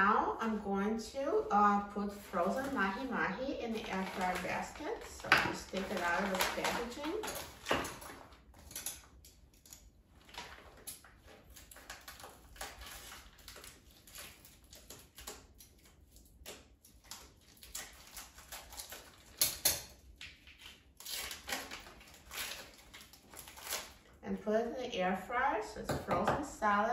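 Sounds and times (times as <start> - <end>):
plastic wrapping crinkling: 1.2 - 24.2.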